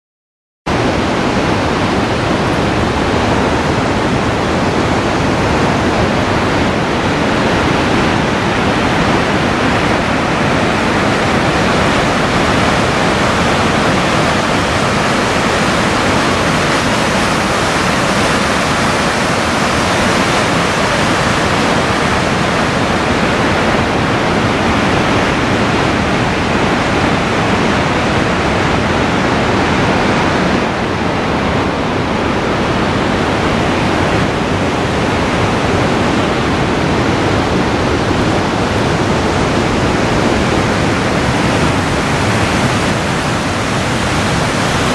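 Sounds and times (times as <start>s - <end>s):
water rushing down waterfall: 0.7s - 44.9s.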